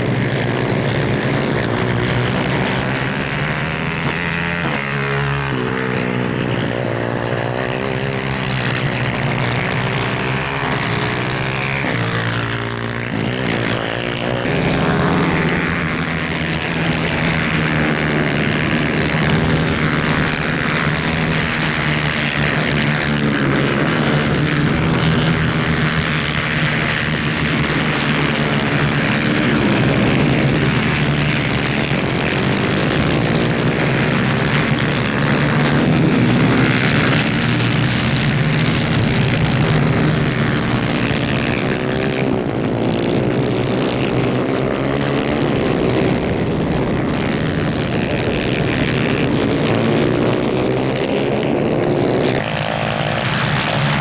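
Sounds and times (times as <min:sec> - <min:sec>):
kart engines buzzing: 0:00.0 - 0:54.0.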